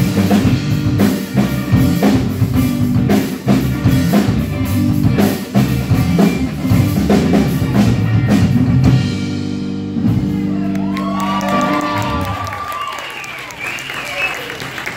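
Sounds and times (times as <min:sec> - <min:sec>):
live rock band: 0:00.0 - 0:14.9.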